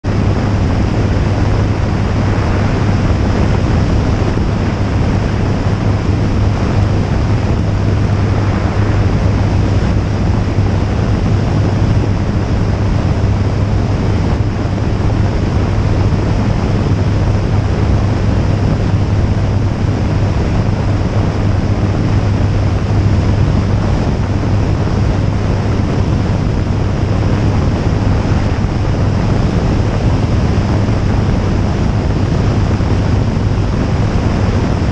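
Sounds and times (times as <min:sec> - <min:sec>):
light aircraft engine drone: 0:00.0 - 0:34.9
wind rushing on microphone: 0:00.0 - 0:34.9.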